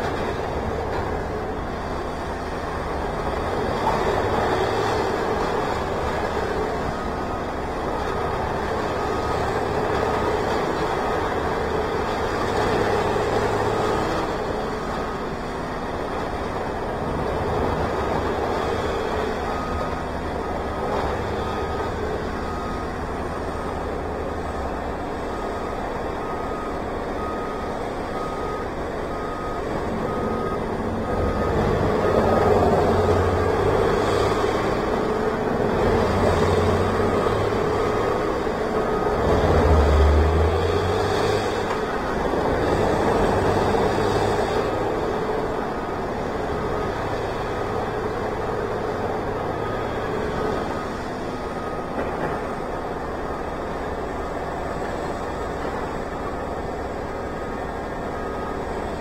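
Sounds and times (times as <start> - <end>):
heavy machinery engine running: 0.0 - 59.0
reversing alarm beeping: 0.0 - 59.0.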